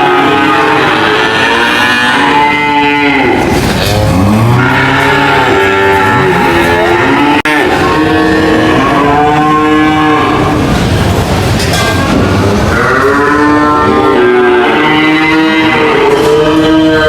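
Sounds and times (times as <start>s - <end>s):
cattle mooing: 0.0s - 10.9s, 12.0s - 17.0s.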